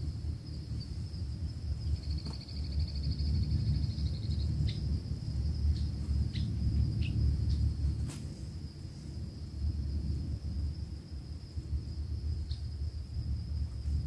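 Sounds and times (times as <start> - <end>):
fast pulsing insect trill: 0.0 - 14.0
insects trilling: 0.0 - 14.0
low steady rumble: 0.0 - 14.0.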